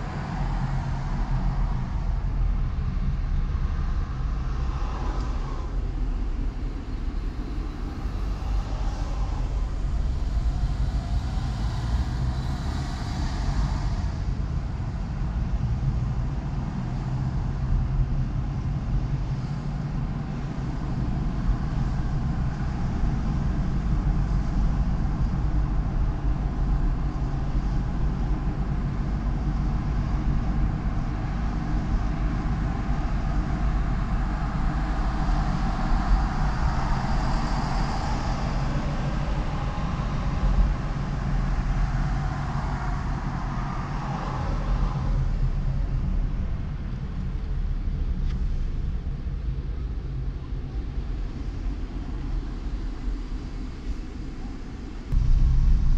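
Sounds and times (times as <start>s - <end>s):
car engine and tyre road noise: 0.0s - 55.9s.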